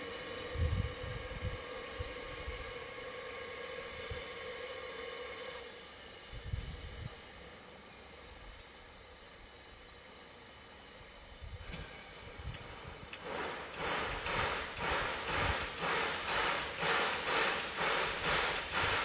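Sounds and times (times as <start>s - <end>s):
steam hissing: 0.0s - 9.9s, 10.9s - 19.0s
whine: 0.0s - 19.0s.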